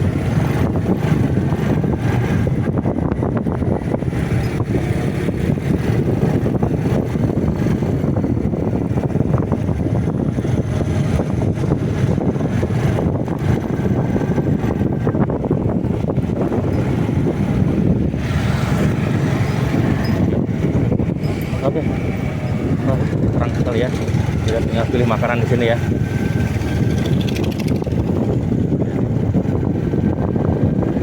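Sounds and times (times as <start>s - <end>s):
motorcycle engine rumble: 0.0s - 31.0s
road noise: 0.0s - 31.0s
wind buffeting microphone: 0.0s - 31.0s.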